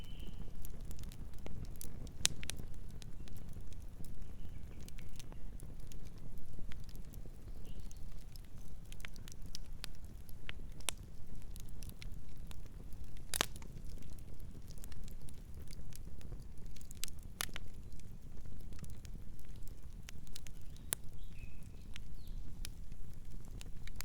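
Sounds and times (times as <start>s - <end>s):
campfire crackling: 0.0s - 24.0s
low rumble of flames: 0.0s - 24.0s.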